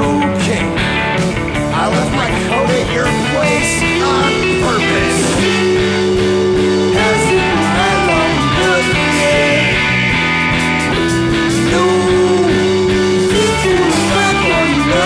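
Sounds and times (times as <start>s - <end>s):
psychedelic rock song: 0.0s - 15.0s.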